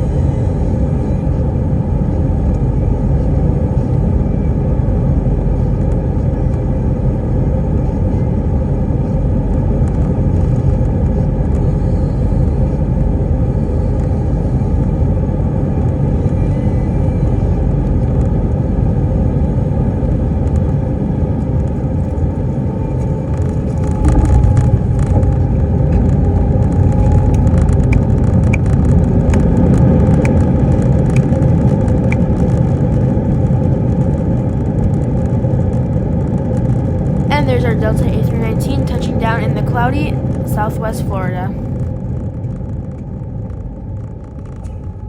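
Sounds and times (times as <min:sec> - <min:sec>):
aircraft cabin engine rumble: 0:00.0 - 0:45.0.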